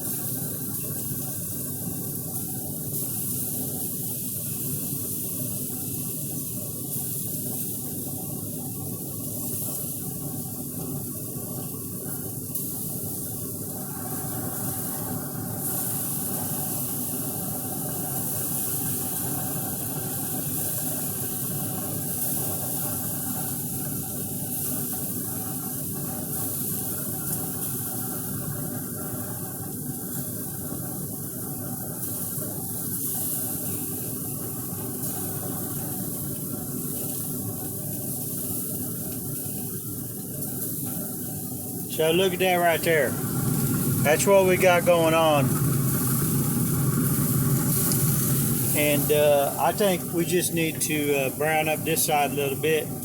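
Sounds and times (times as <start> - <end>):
steaks sizzling on a grill: 0.0 - 53.0.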